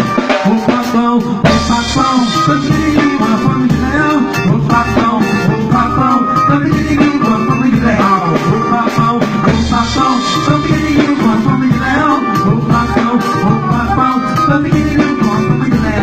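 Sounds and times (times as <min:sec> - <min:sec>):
band music with steady beat: 0:00.0 - 0:16.0.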